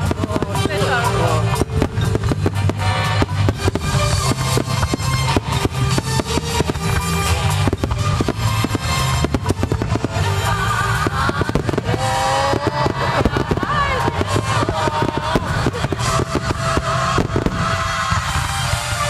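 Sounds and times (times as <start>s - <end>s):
fireworks bangs: 0.0s - 19.0s
music with heavy drum beat: 0.0s - 19.0s.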